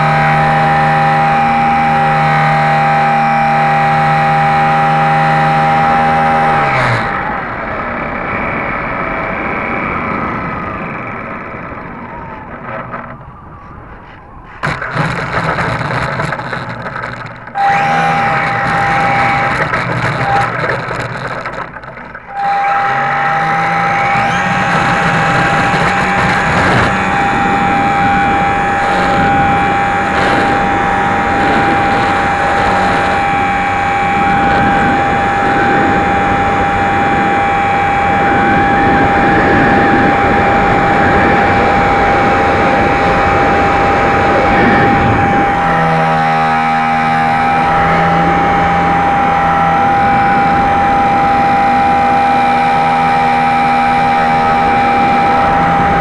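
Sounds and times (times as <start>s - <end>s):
electric motor and propeller: 0.0s - 56.0s
high steady whine: 0.0s - 56.0s.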